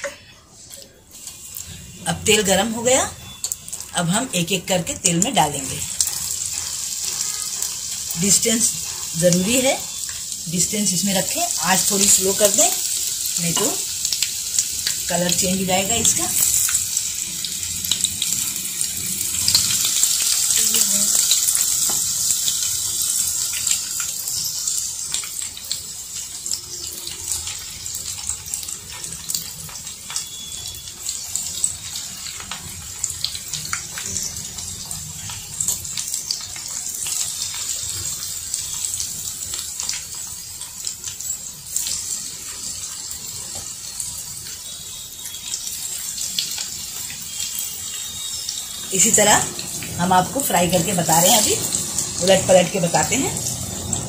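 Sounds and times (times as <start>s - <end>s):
food deep-frying in hot oil: 0.0s - 54.0s.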